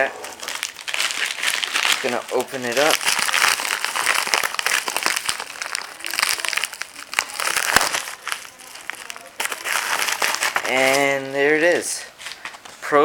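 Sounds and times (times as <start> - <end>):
packaging crackling: 0.0 - 11.3.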